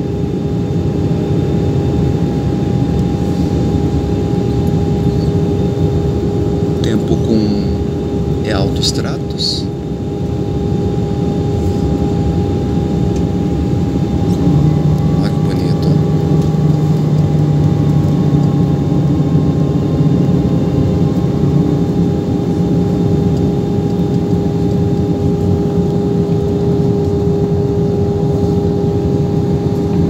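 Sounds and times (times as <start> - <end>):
jet engine drone: 0.0 - 30.0.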